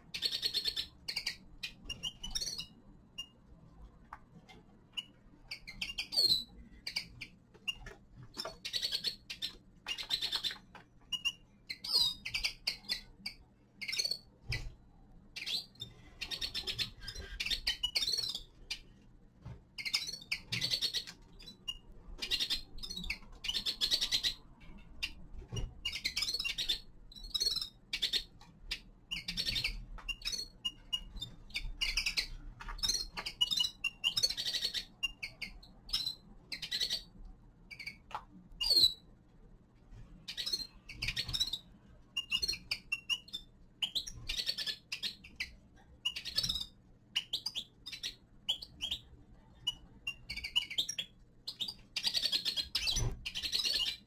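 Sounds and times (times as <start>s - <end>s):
finches chirping: 0.0s - 3.5s, 4.8s - 19.0s, 19.7s - 39.1s, 40.2s - 54.0s.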